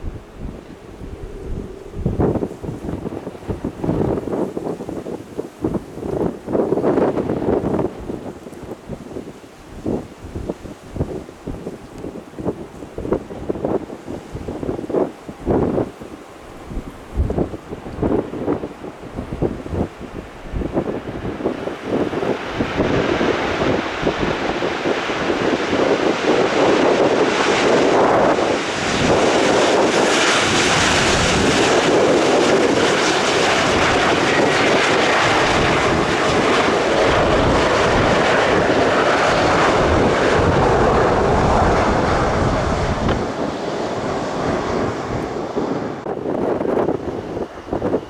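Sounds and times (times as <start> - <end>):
jet airliner passing: 0.0 - 10.1, 10.7 - 48.0
wind buffeting microphone: 0.0 - 48.0.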